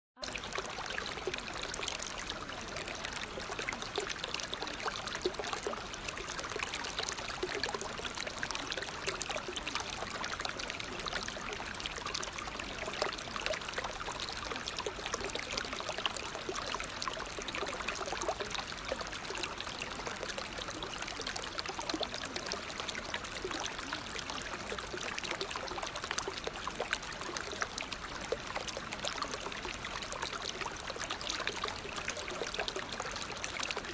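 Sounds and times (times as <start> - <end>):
running water: 0.2 - 33.9.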